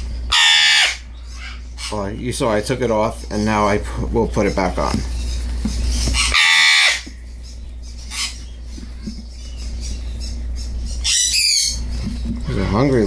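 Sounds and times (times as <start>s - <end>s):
parrot squawking: 0.0s - 2.2s, 4.4s - 13.0s.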